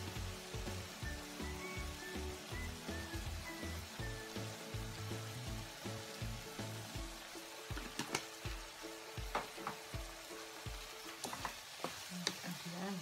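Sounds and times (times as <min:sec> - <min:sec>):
background music with low beat: 0:00.0 - 0:11.6
seafood sizzling in a frying pan: 0:00.0 - 0:13.0.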